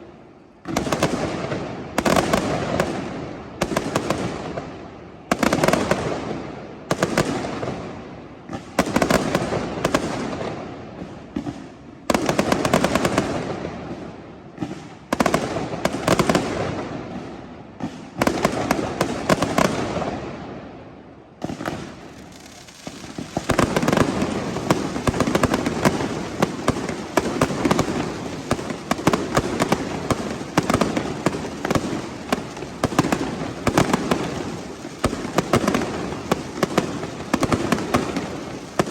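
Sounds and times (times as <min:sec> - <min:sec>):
fireworks crackling bangs: 0:00.0 - 0:38.9.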